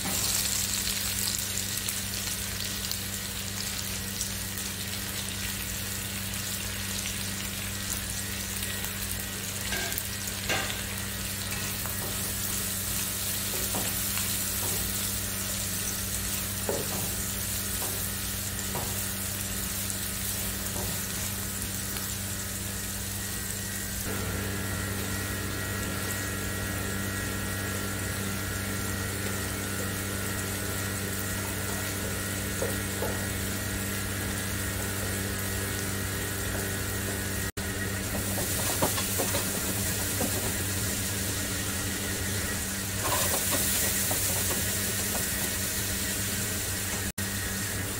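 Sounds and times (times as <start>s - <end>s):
vegetables sizzling in hot oil: 0.0s - 47.9s.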